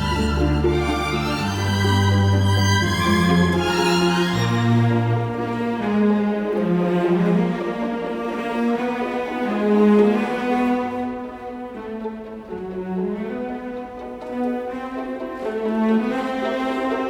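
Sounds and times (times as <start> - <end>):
slow bowed string melody: 0.0 - 17.0.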